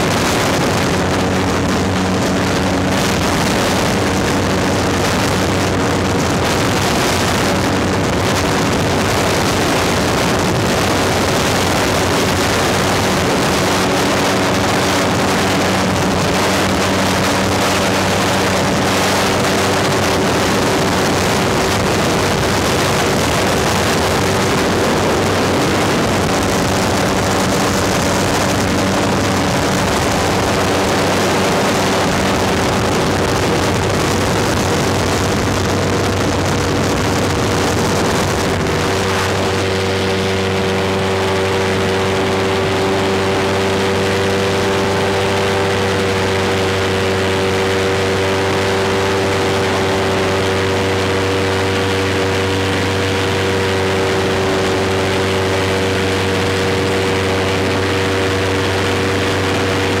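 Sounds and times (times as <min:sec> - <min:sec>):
airboat engine and propeller: 0:00.0 - 1:00.0.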